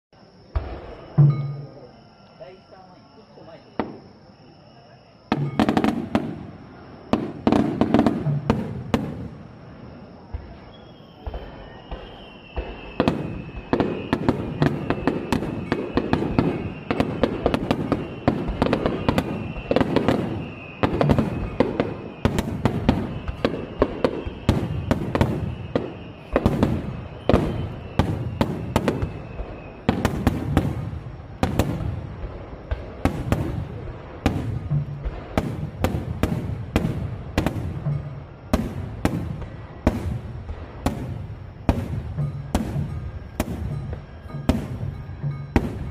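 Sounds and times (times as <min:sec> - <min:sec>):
fireworks booms: 0:00.4 - 0:02.0, 0:03.4 - 0:45.9.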